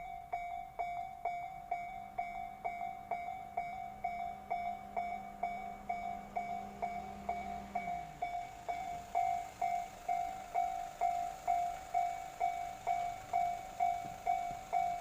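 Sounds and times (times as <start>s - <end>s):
level crossing warning bell: 0.0s - 15.0s
low steady hum: 0.0s - 15.0s.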